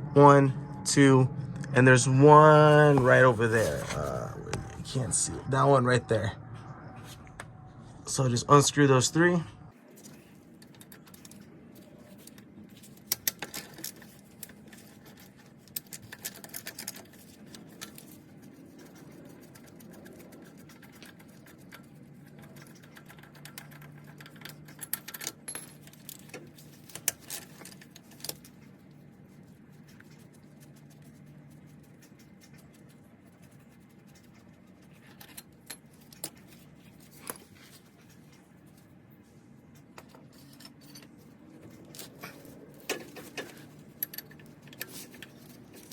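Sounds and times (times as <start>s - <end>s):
faint low hum: 0.0s - 45.9s.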